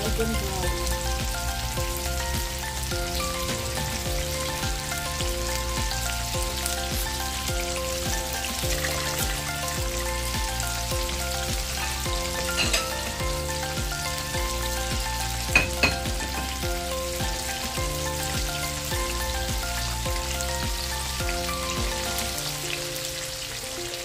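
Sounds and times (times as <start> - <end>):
soft music with steady beat: 0.0 - 24.0
squid sizzling in hot oil: 0.0 - 24.0.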